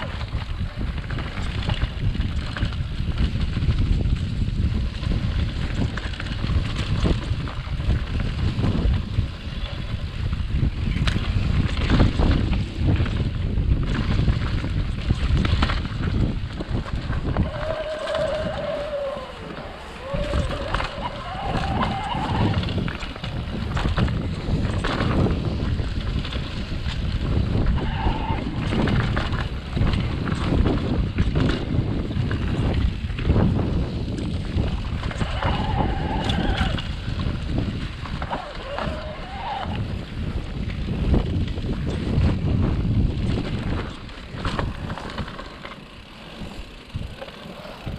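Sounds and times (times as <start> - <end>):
bike knocks and rattles: 0.0 - 27.8, 28.5 - 35.6, 40.0 - 47.9
tyres rumbling on dirt: 0.0 - 47.9
wind buffeting microphone: 0.0 - 47.9.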